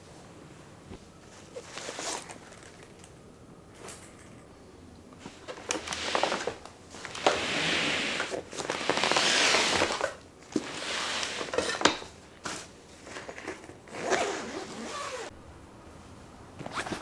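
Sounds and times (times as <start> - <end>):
bags and packaging rustling: 0.9 - 4.5, 5.2 - 15.3.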